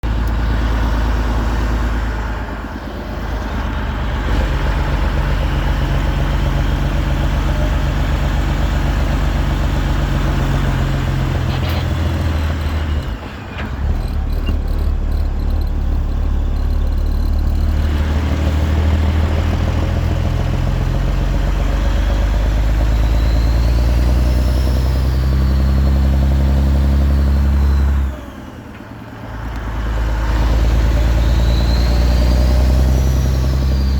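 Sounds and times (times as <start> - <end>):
diesel truck exhaust rumbling: 0.0 - 33.9.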